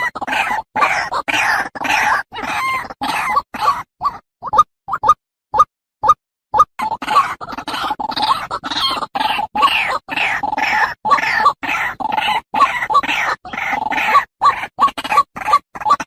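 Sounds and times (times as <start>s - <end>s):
waterhen harsh croaking calls: 0.0s - 5.7s, 6.6s - 16.0s.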